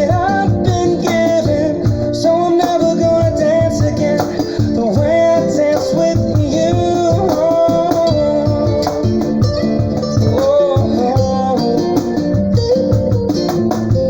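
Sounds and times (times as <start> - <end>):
cajon strikes: 0.0 - 14.0
guitar: 0.0 - 14.0.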